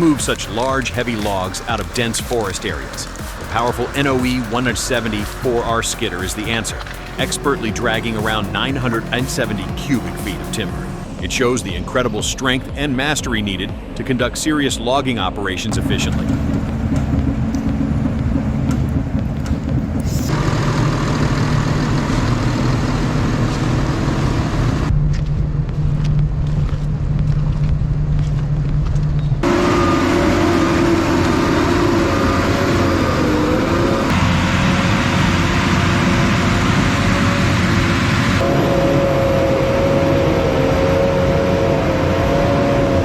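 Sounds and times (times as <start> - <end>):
wavering hydraulic whine: 0.0 - 12.2, 15.6 - 25.0, 29.4 - 43.0
heavy machine engines running: 0.0 - 43.0.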